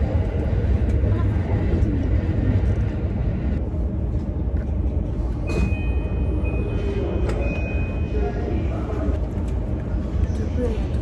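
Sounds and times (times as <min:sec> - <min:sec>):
train rumble from inside car: 0:00.0 - 0:11.0.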